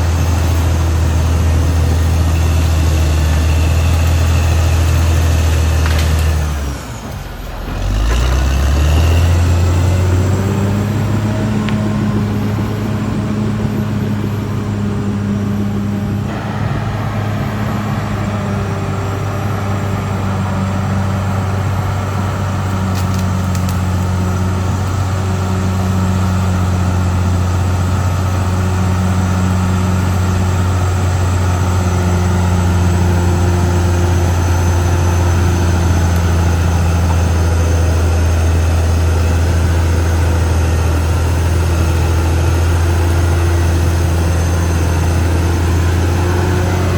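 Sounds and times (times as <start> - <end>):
bulldozer diesel engine droning: 0.0 - 46.9
wide noise: 0.0 - 46.9.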